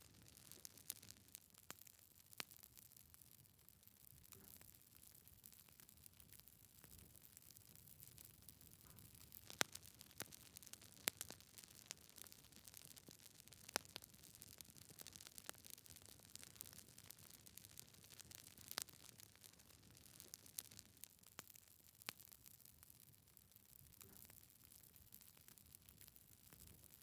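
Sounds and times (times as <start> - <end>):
logs crackling in a fireplace: 0.0 - 27.0.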